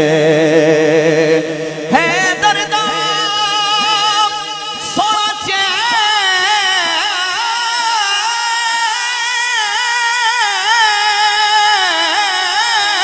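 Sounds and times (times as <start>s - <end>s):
man singing into microphone: 0.0s - 13.0s.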